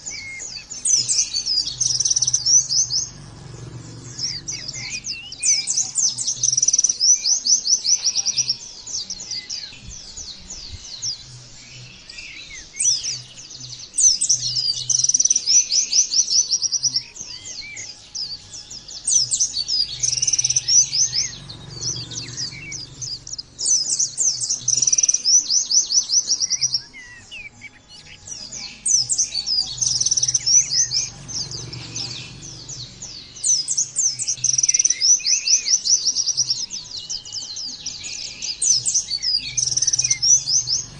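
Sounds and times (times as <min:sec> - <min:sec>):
white-eye singing chattering trills: 0:00.0 - 0:40.9.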